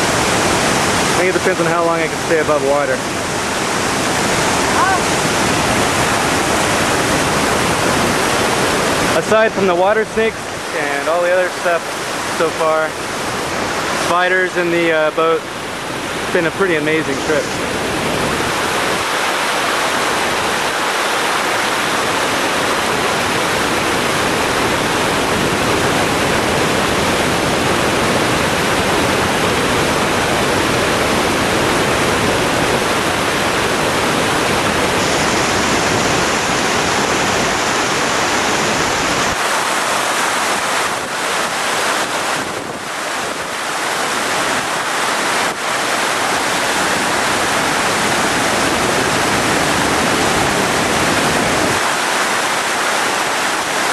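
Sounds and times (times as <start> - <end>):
water rushing over rock: 0.0 - 53.9.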